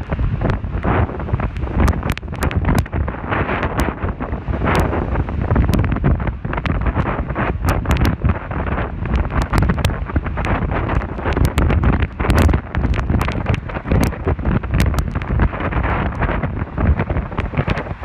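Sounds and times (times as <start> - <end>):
sharp crackles: 0.0 - 4.0, 5.5 - 18.0
wind buffeting microphone: 0.0 - 18.0.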